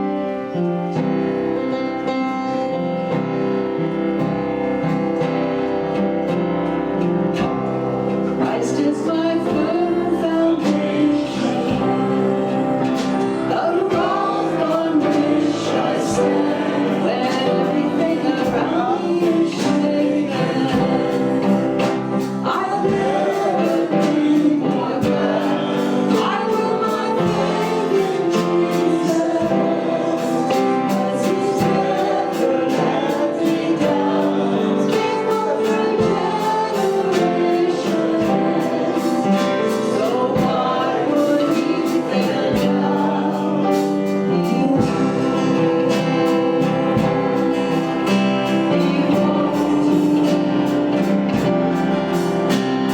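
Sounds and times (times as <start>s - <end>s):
group singing worship song: 0.0s - 52.9s
instrumental accompaniment with beat: 0.0s - 52.9s.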